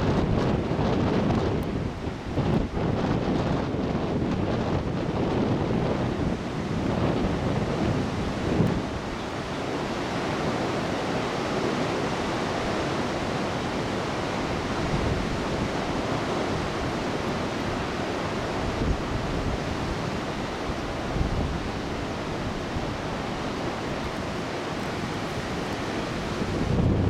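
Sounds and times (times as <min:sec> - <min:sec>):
breaking storm waves: 0:00.0 - 0:27.0.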